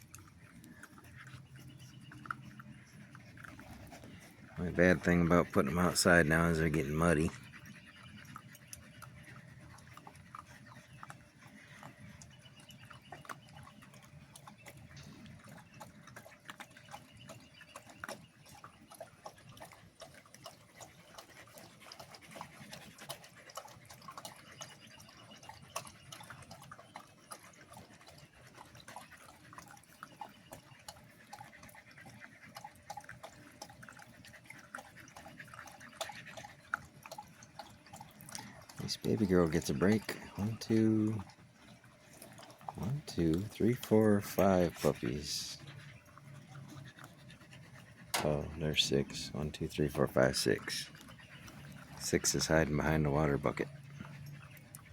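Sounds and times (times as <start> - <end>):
puppies moving in mud and water: 0.0 - 54.9.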